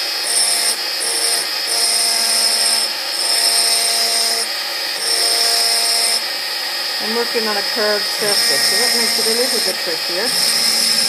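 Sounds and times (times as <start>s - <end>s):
rotary engraving drill whining: 0.0s - 11.0s.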